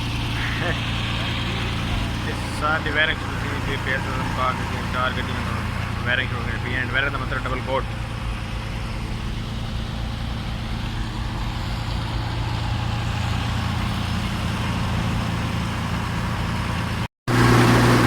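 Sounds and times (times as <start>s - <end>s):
heavy engine humming: 0.0s - 18.0s.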